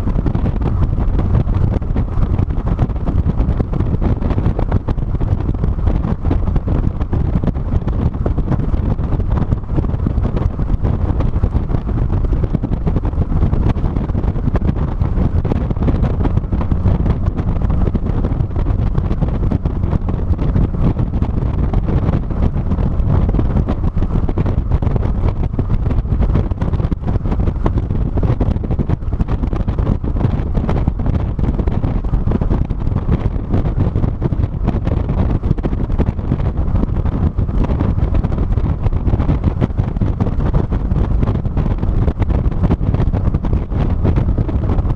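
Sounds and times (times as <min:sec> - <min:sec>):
road noise: 0:00.0 - 0:44.9
wind buffeting microphone: 0:00.0 - 0:44.9.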